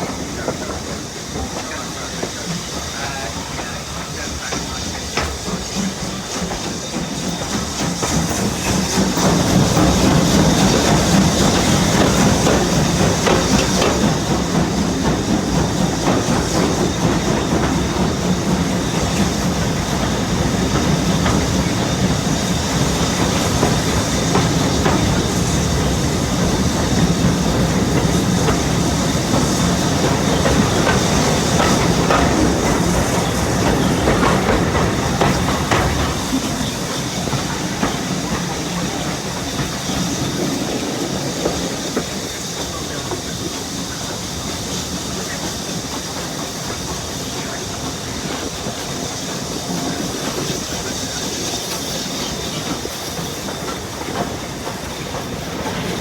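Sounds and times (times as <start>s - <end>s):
train wheels clickety-clack: 0.0s - 56.0s.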